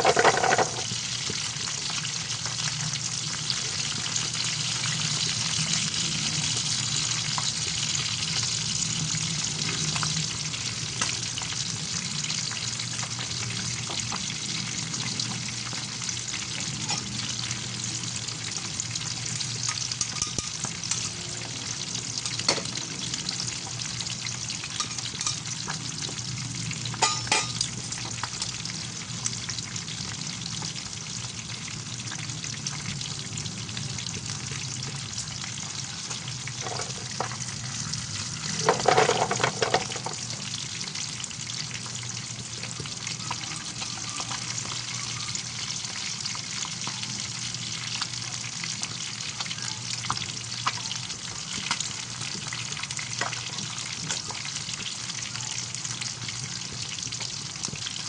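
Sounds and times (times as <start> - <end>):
fish frying in hot oil: 0.0 - 58.0.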